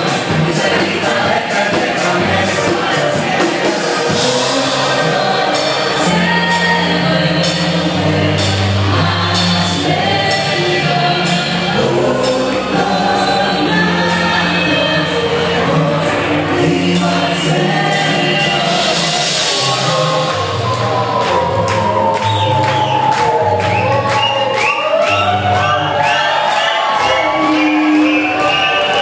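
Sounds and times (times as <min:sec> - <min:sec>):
band playing song: 0:00.0 - 0:29.0
bass line: 0:00.0 - 0:29.0
high percussion beat: 0:00.0 - 0:29.0
voices singing together: 0:00.0 - 0:29.0.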